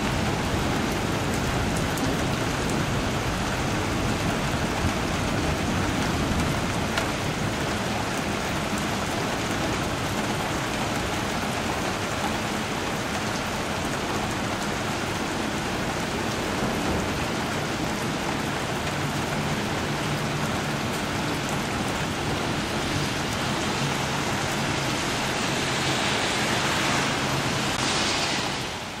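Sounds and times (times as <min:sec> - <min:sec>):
steady rain: 0:00.0 - 0:29.0
water flowing over pavement: 0:00.0 - 0:29.0.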